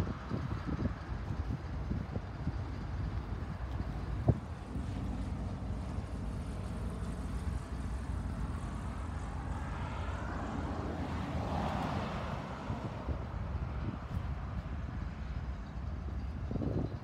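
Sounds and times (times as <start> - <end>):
propeller plane flying overhead: 0.0 - 17.0.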